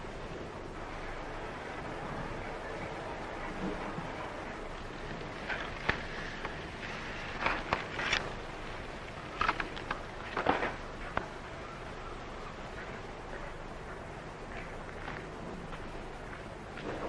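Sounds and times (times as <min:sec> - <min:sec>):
film soundtrack hiss: 0:00.0 - 0:17.0.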